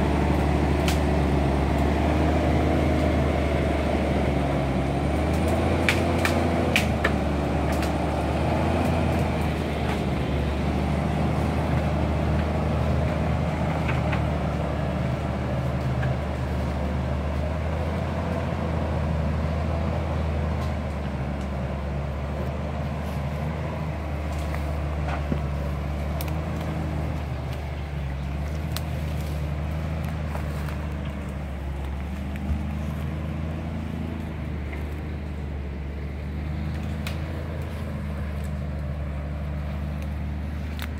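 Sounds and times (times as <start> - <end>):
diesel engine low hum: 0.0 - 40.9.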